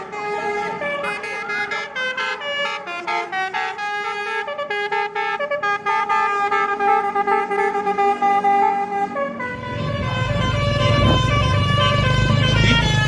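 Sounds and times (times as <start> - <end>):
bus musical horn tune: 0.0 - 13.0.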